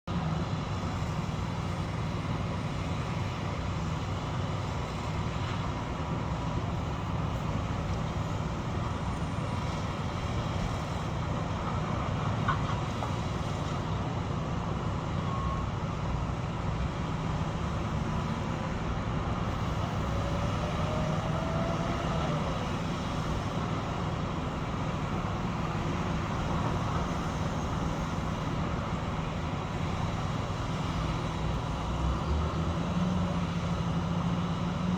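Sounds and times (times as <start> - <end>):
diesel construction machinery droning: 0.1 - 34.9.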